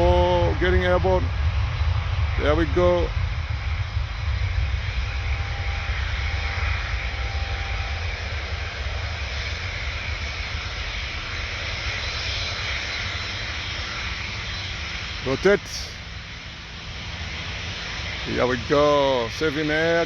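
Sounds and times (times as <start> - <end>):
jet engines roaring at takeoff: 0.0 - 20.0.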